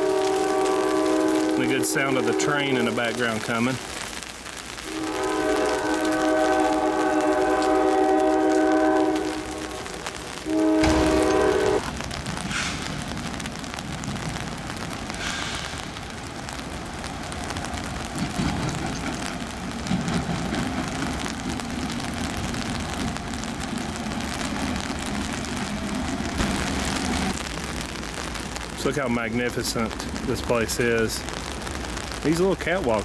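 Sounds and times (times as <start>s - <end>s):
train rumbling: 0.0s - 4.1s, 4.8s - 33.0s
heavy rain falling: 0.0s - 33.0s.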